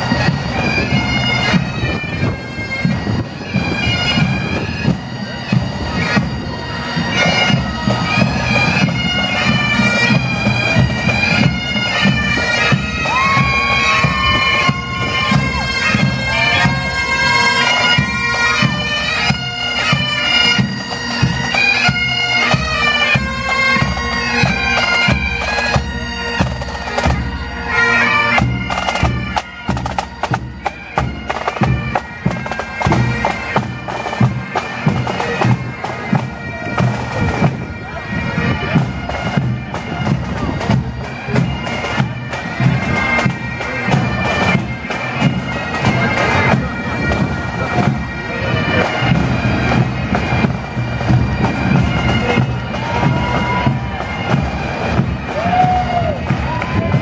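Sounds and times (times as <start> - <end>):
bagpipes playing a melody: 0.0 - 57.0.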